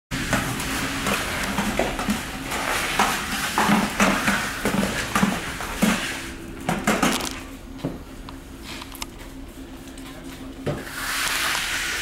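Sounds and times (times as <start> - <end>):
steady low hum: 0.1 - 10.9.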